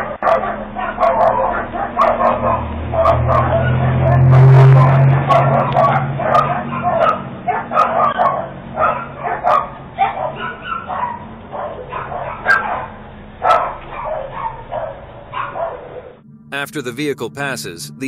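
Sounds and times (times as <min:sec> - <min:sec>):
dog barking: 0:00.0 - 0:16.2.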